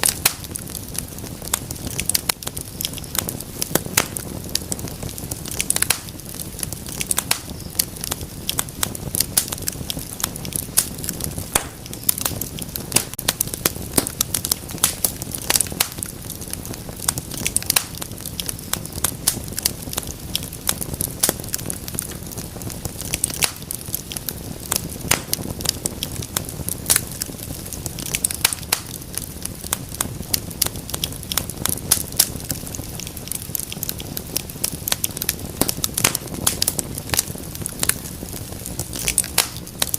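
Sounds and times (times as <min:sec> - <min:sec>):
fire crackling and popping: 0:00.0 - 0:39.9
low rumble and hiss of flames: 0:00.0 - 0:39.9.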